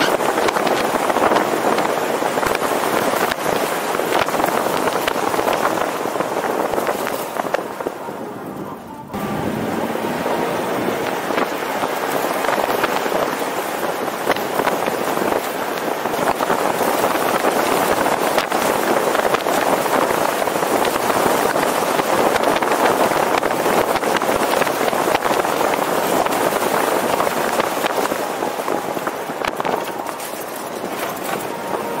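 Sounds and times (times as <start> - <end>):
car road noise: 0.0 - 32.0
rushing wind: 0.0 - 32.0.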